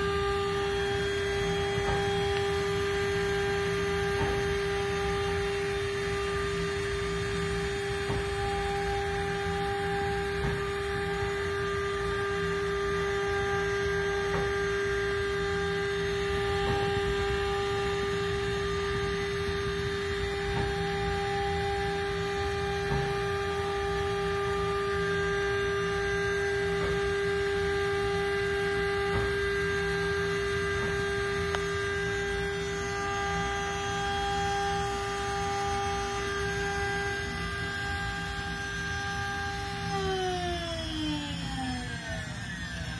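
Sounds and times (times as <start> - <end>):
spindle whine: 0.0 - 42.9.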